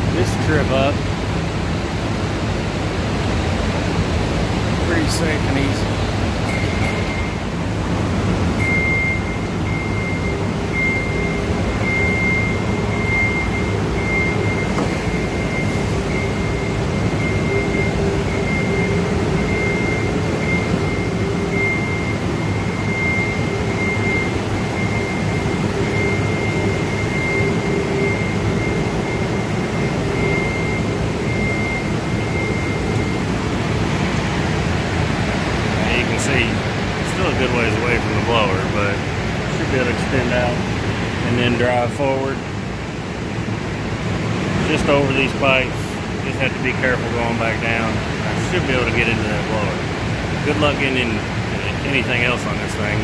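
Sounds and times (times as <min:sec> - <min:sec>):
industrial machinery drone: 0:00.0 - 0:53.0.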